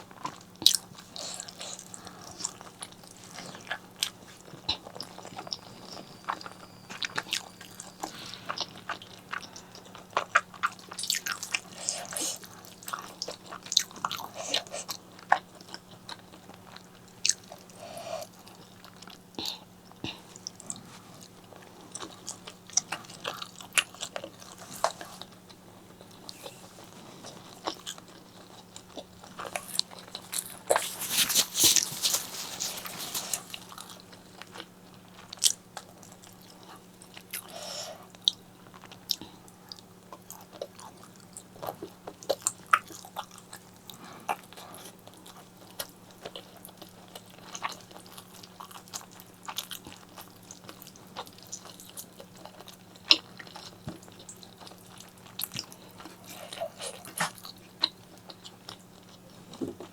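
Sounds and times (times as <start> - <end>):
mouth biting and chewing food: 0.1 - 59.8.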